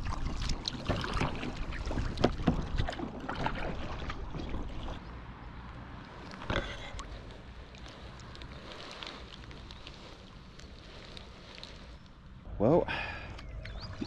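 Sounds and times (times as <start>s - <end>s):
paddle strokes splashing water: 0.0s - 12.4s.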